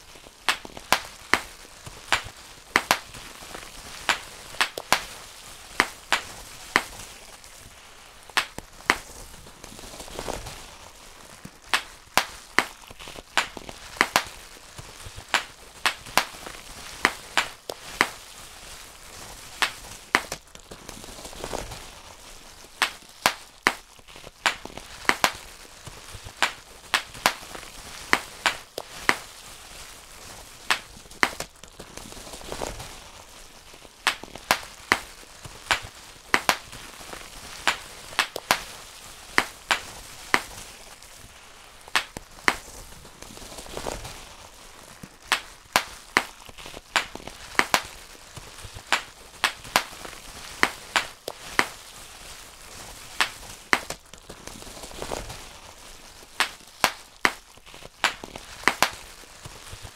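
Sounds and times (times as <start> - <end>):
bubble wrap popping: 0.0 - 59.9
plastic sheet rustling: 0.0 - 59.9.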